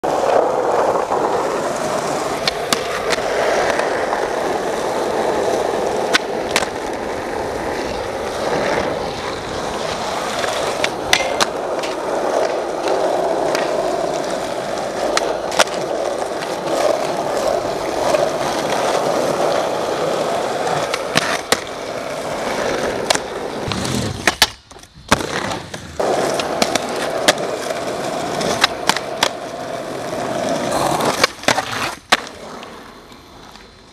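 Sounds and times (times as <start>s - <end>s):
skateboard clacks: 0.0s - 33.9s
skateboard wheels rolling on concrete: 0.0s - 33.9s.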